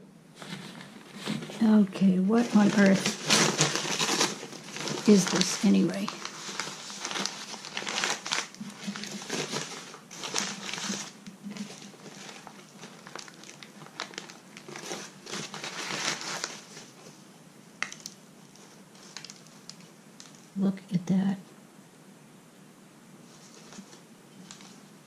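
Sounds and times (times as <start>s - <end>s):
newspaper crinkling and rustling: 0.4s - 17.2s, 17.8s - 20.6s, 23.2s - 25.0s.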